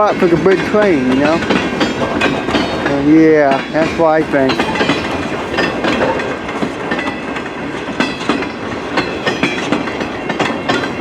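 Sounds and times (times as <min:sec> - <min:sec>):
train wheels clacking over rail joints: 0:00.0 - 0:11.0.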